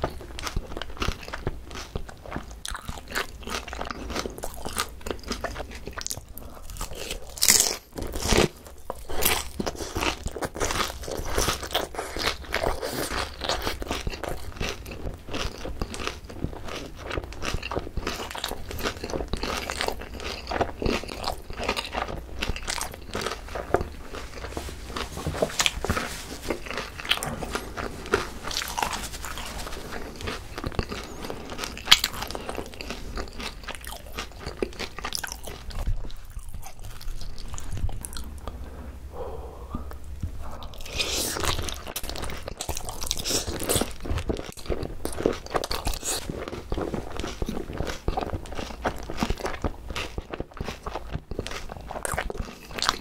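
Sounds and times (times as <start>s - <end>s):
chewing crispy fried chicken: 0.0s - 53.0s.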